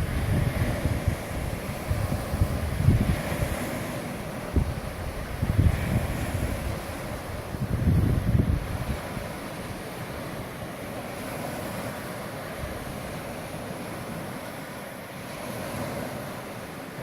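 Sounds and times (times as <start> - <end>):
surf washing along shoreline: 0.0 - 17.0.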